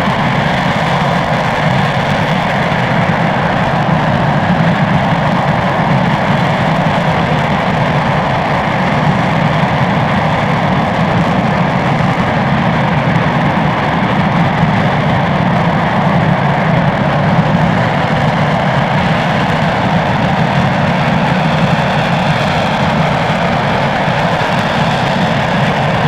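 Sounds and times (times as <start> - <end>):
rocket engine firing: 0.0 - 26.0.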